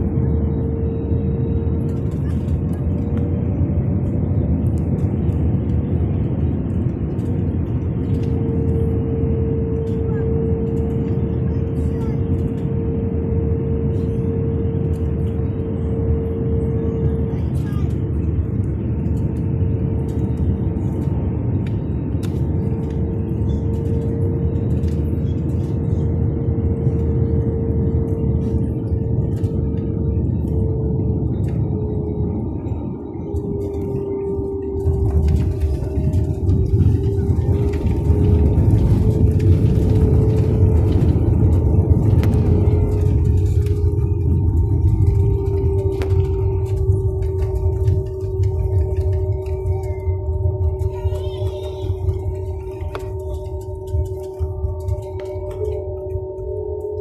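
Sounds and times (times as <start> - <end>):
airliner engine and airflow rumble: 0.0 - 57.0
constant cabin hum: 0.0 - 57.0.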